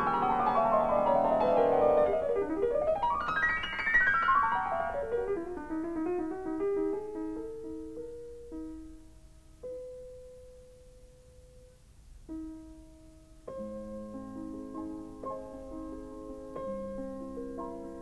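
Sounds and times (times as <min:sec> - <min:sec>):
piano music: 0:00.0 - 0:11.7, 0:12.3 - 0:18.0.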